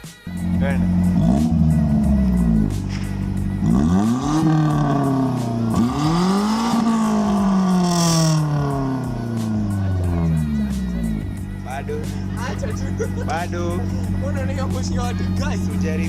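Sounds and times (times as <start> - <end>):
car engine revving: 0.3 - 16.0.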